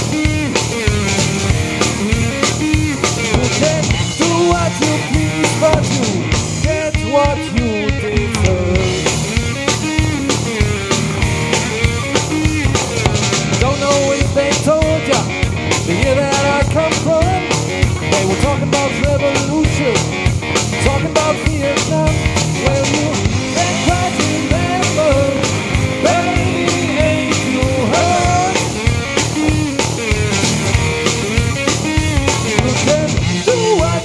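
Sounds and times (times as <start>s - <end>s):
drum kit: 0.0s - 34.0s
electric bass: 0.0s - 34.0s
electric guitar lead line: 0.0s - 34.0s.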